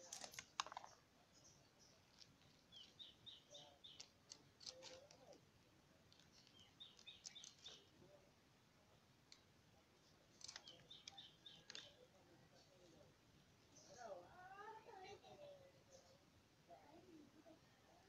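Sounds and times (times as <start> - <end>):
bird chirping faintly: 0.0 - 14.8.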